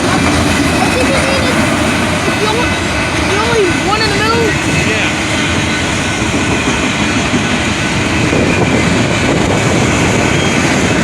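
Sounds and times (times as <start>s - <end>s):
train wheels rattling on rails: 0.0s - 11.0s.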